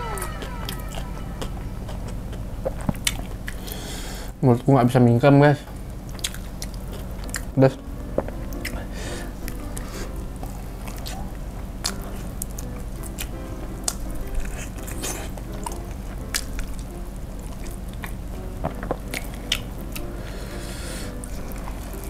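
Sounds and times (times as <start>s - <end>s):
soft background music: 0.0s - 3.4s, 4.3s - 22.0s
wet chewing of crispy chicken: 1.9s - 4.2s, 6.0s - 7.5s, 8.2s - 22.0s.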